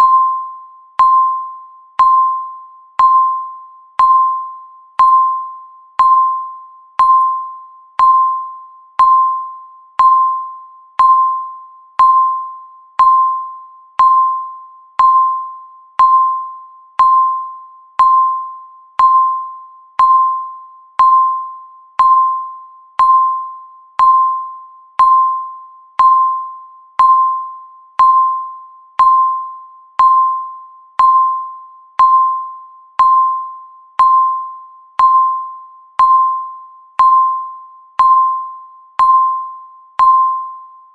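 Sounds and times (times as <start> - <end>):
countdown timer beeps: 0.0 - 40.9.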